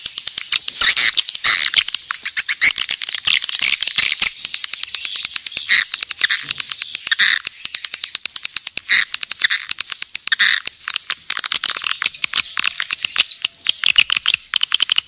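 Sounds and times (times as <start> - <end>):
swiftlets clicking and chirping: 0.0 - 15.0.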